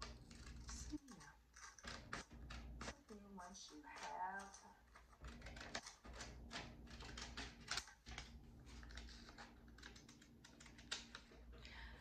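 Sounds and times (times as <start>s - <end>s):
scissors snipping paper: 0.0s - 11.6s.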